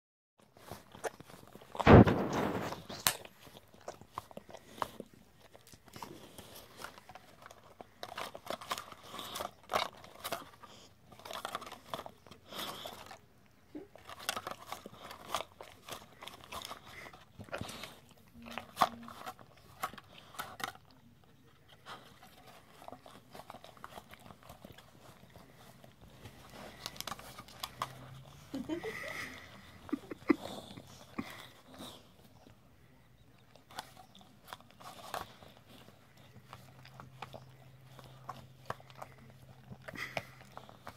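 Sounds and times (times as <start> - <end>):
teeth scraping plastic: 0.4 - 40.9.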